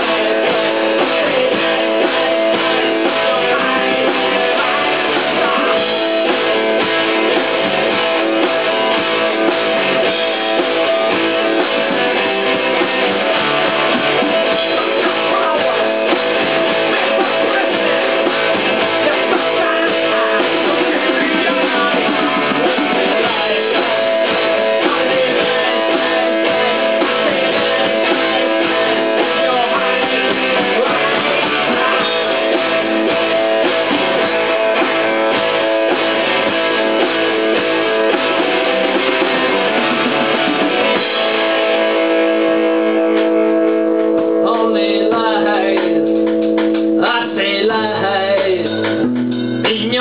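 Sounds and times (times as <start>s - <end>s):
bass guitar: 0.0s - 50.0s
drum kit: 0.0s - 50.0s
electric guitar: 0.0s - 50.0s.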